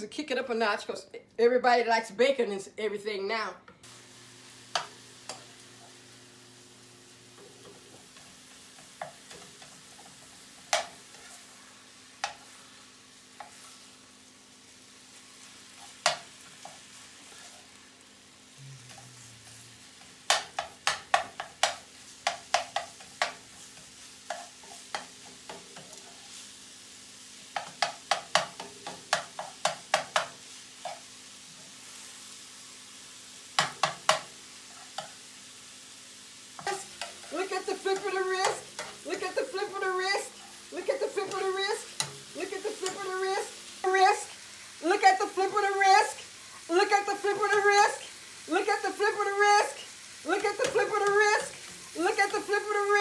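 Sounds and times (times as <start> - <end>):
sausage sizzling in a pan: 3.8 - 53.0.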